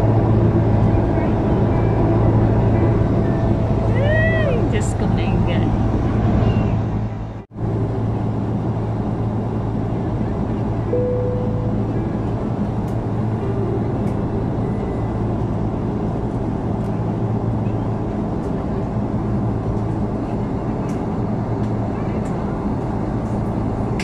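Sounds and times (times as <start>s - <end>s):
airliner cabin drone: 0.0s - 24.0s.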